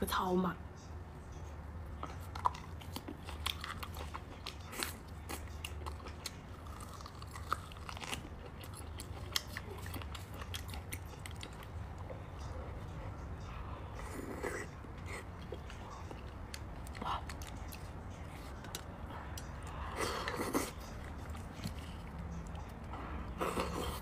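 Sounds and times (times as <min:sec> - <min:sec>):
person chewing soft food: 0:01.9 - 0:24.0.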